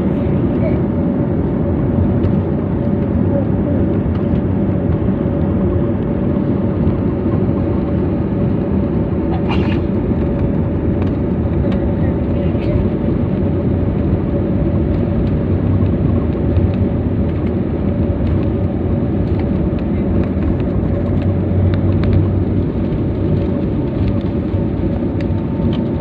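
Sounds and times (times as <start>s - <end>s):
higher engine hum: 0.0s - 26.0s
jet engines and wheels rumbling: 0.0s - 26.0s.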